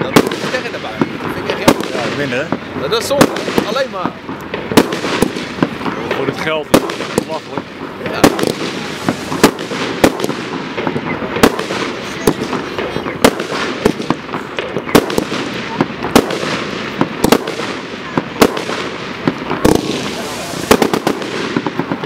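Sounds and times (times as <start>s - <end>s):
firework crackling: 0.0s - 22.0s
firework shots and bursts: 0.0s - 22.0s.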